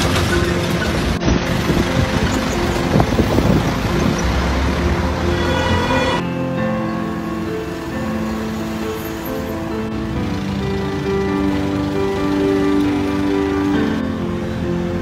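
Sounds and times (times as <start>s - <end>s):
background music: 0.0s - 15.0s
passing cars and motorbikes: 0.0s - 15.0s.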